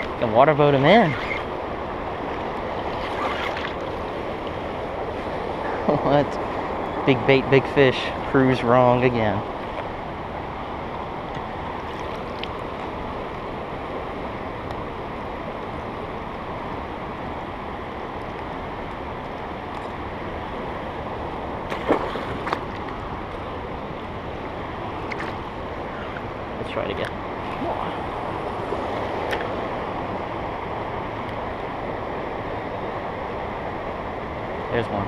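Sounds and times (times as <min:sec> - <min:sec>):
river flowing over rapids: 0:00.0 - 0:35.0.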